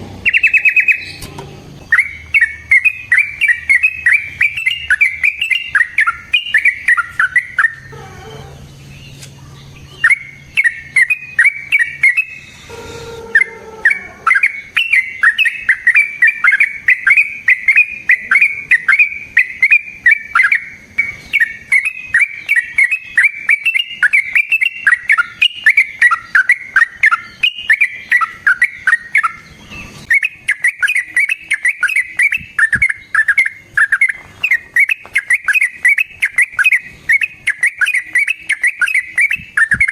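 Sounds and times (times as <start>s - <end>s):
bird singing bubbling notes: 0.0s - 8.9s, 9.6s - 39.9s.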